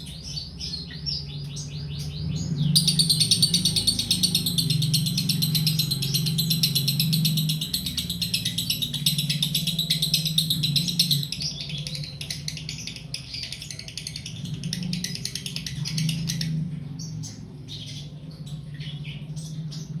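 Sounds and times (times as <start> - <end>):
lovebird chirping: 0.0 - 20.0.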